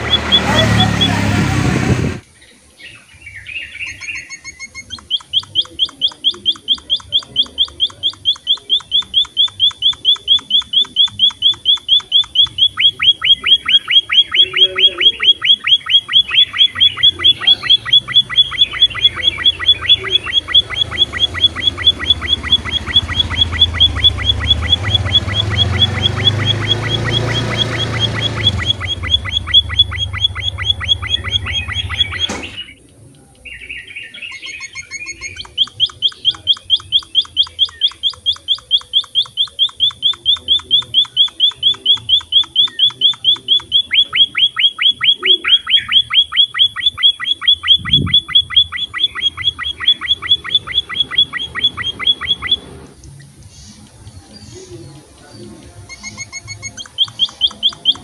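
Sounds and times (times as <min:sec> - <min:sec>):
birds chirping high: 0:00.0 - 0:58.0.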